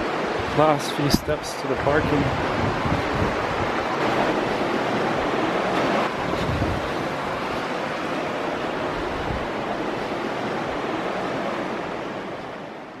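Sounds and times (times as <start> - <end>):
wind rushing over microphone: 0.0 - 12.1.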